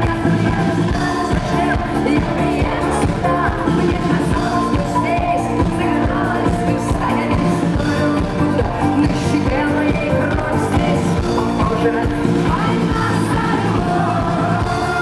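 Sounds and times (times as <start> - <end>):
drums: 0.0 - 15.0
rock band playing: 0.0 - 15.0
woman singing: 0.0 - 15.0.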